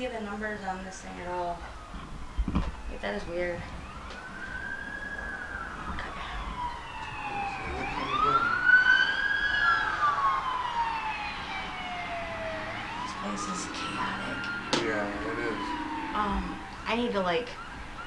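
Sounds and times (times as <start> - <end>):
emergency siren wailing: 0.0 - 18.0.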